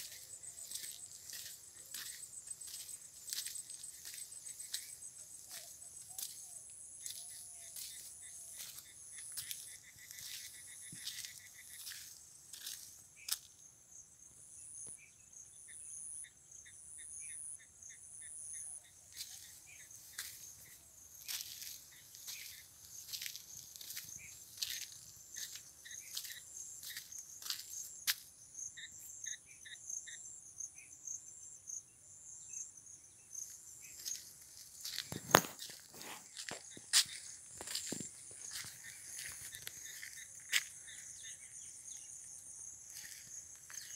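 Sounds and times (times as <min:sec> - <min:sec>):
insects trilling: 0:00.0 - 0:43.9
steady high insect buzz: 0:00.0 - 0:43.9.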